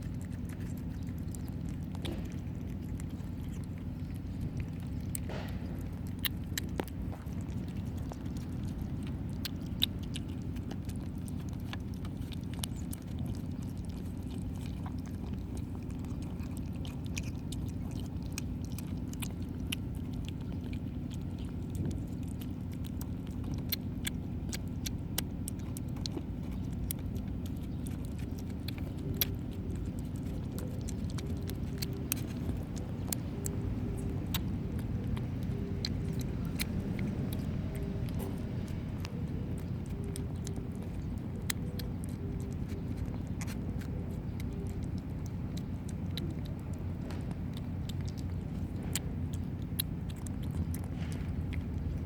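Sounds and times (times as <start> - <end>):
kittens chewing and lapping: 0.0 - 52.0
steady low hum: 0.0 - 52.0.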